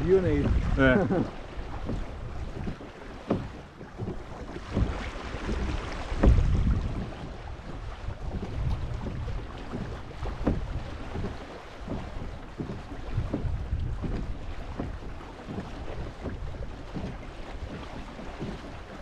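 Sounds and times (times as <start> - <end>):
water splashing and lapping: 0.0 - 19.0
wind rumble on microphone: 0.0 - 19.0
short knocks: 0.1 - 18.8.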